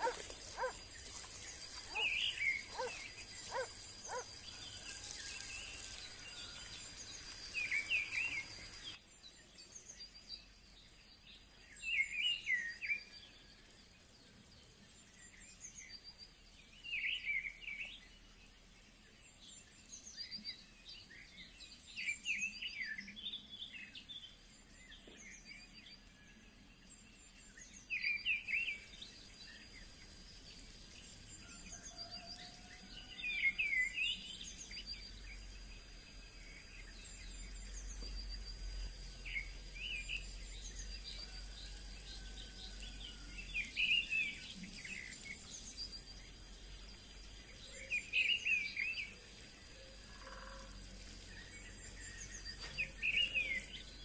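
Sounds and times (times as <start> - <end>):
bird chirping: 0.0 - 13.6, 19.3 - 54.0
background hiss: 0.0 - 54.0.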